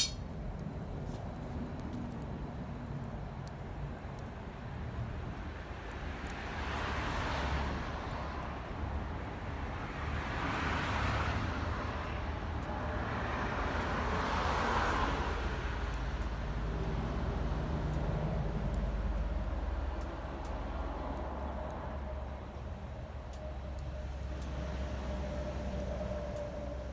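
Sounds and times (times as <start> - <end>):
steady low traffic rumble: 0.0 - 26.9
vehicles passing by: 0.0 - 26.9.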